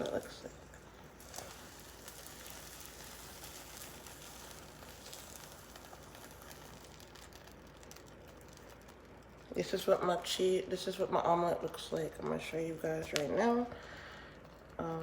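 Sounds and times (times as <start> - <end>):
frying pan sizzling and crackling: 0.0 - 15.0.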